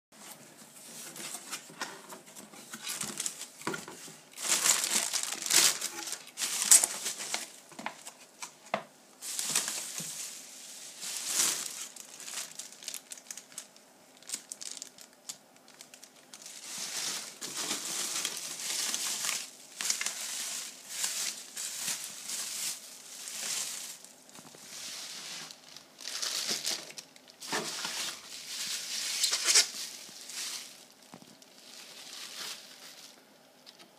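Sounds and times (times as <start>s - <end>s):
plastic packaging crinkling: 1.0s - 33.8s.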